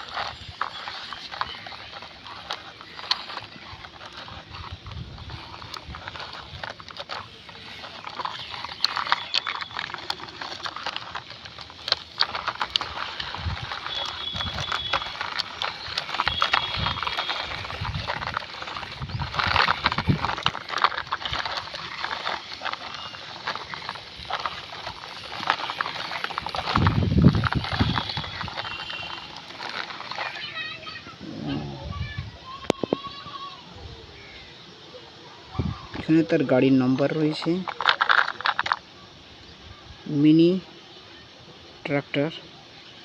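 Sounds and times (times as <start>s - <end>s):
toy tractor gears clattering: 0.0s - 31.8s, 32.4s - 33.3s, 36.0s - 39.5s.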